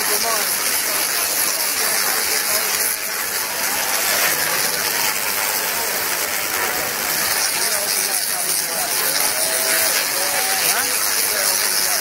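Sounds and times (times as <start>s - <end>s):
tesla coil arcs crackling: 0.0s - 12.0s.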